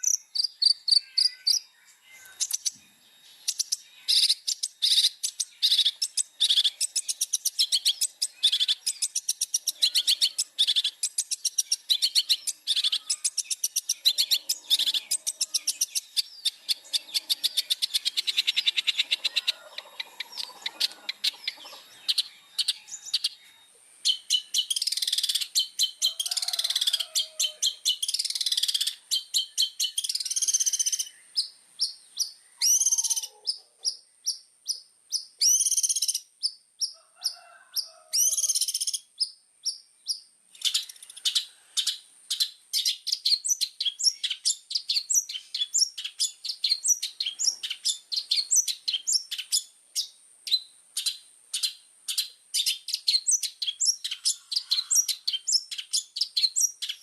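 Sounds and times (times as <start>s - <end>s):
bird singing chattering notes: 0.0s - 37.0s, 38.2s - 57.0s.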